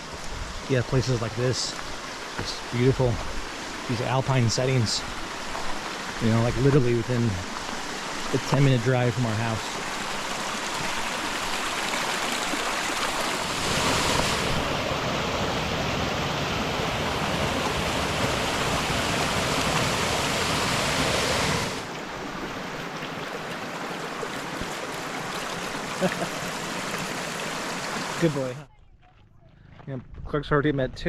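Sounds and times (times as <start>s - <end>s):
creek water rushing: 0.0s - 28.6s.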